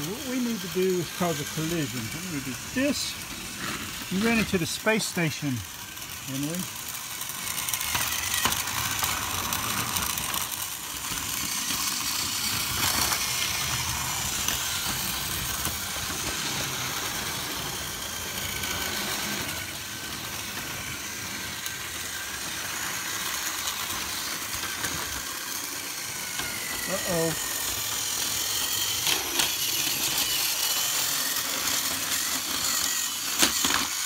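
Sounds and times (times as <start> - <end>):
toy train motors whirring: 0.0 - 34.0.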